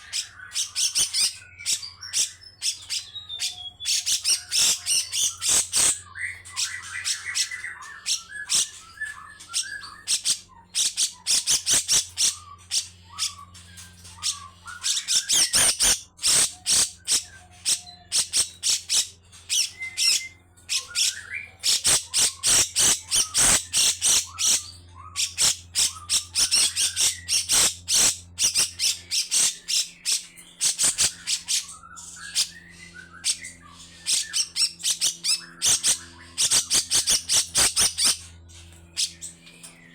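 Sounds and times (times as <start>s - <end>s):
bird harsh rasping calls: 0.0s - 39.9s.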